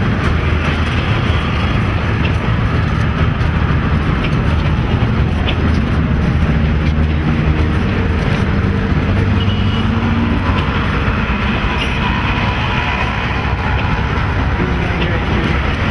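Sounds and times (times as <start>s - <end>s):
train rumbling: 0.0s - 15.9s.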